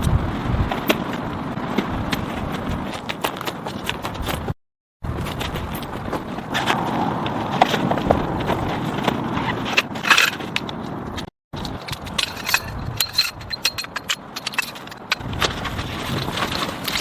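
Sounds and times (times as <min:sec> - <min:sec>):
clicks crunches and scrapes: 0:00.0 - 0:17.0.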